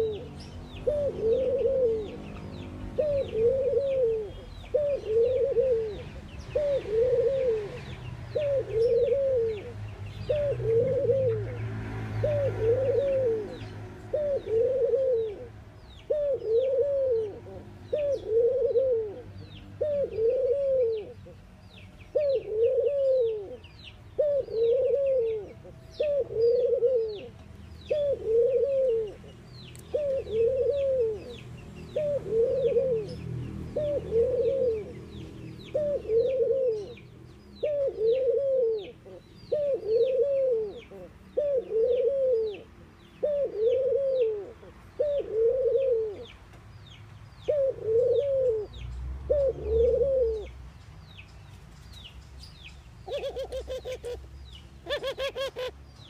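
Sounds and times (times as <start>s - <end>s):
dove cooing: 0.0s - 21.4s, 22.1s - 46.3s, 47.4s - 50.6s, 53.0s - 55.8s.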